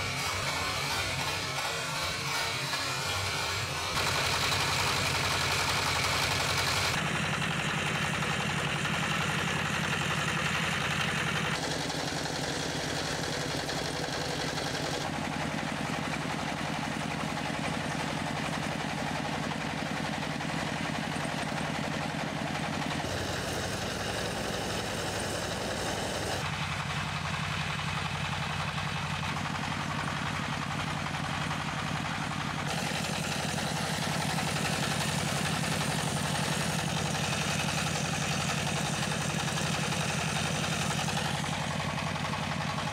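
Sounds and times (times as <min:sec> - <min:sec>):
tractor engine chugging: 0:00.0 - 0:42.9.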